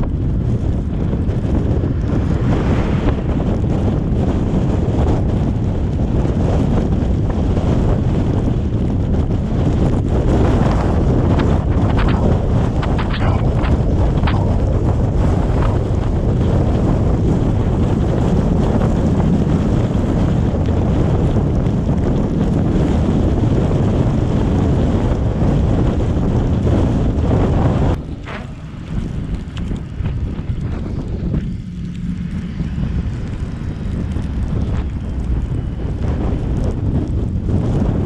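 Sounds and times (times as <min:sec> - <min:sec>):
moving car rumble: 0:00.0 - 0:38.0
wind buffeting microphone: 0:00.0 - 0:38.0.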